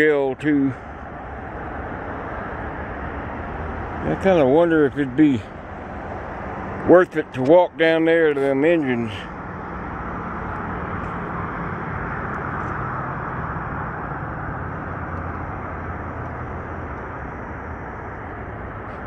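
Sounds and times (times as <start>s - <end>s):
low engine hum: 0.0s - 19.0s
road traffic passing: 0.0s - 19.0s.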